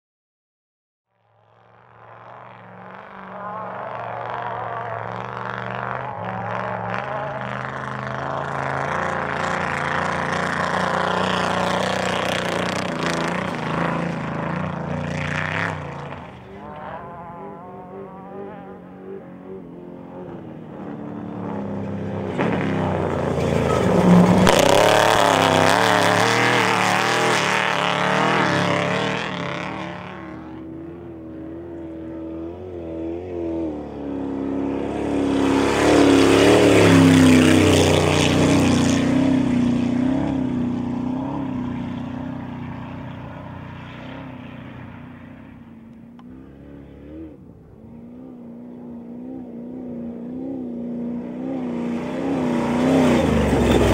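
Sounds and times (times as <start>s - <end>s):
race trucks passing by: 1.4s - 53.9s.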